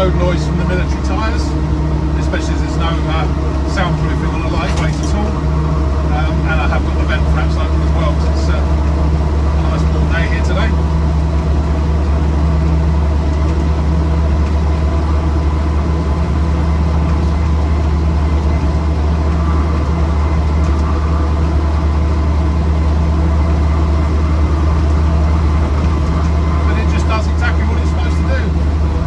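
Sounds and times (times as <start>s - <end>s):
engine droning in vehicle cab: 0.0s - 29.0s
tyre road noise: 0.0s - 29.0s.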